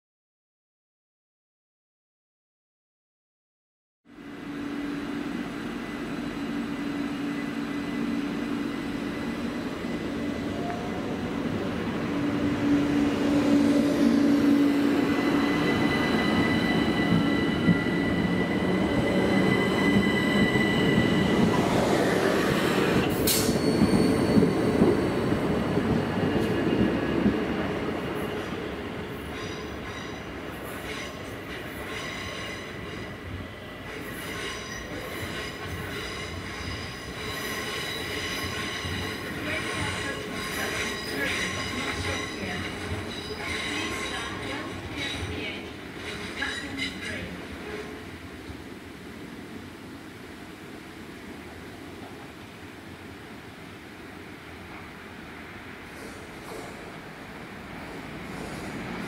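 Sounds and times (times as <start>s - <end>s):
train passing: 4.1s - 59.0s.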